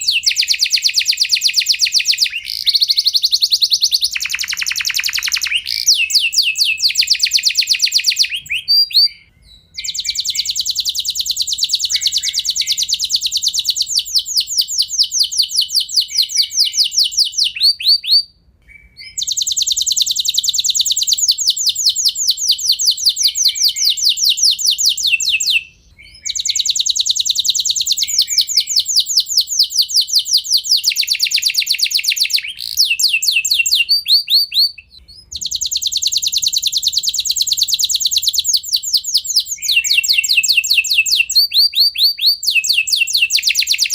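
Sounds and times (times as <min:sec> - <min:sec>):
canary trilling: 0:00.0 - 0:43.9.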